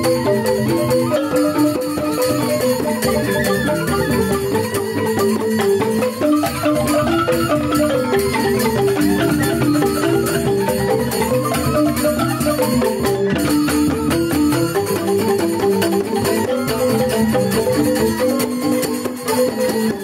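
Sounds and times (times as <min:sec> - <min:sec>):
bamboo flute: 0:00.0 - 0:20.0
bamboo xylophones playing: 0:00.0 - 0:20.0.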